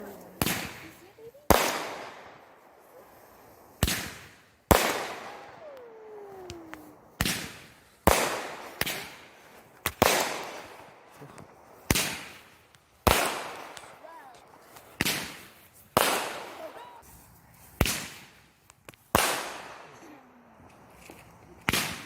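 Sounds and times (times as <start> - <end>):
fireworks bangs with echo: 0.4 - 17.0, 17.8 - 20.3, 21.6 - 22.0.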